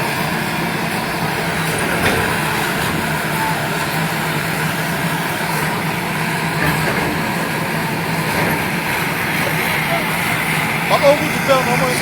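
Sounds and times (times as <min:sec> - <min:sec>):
heavy engine running: 0:00.0 - 0:12.0
outdoor noise: 0:00.0 - 0:12.0.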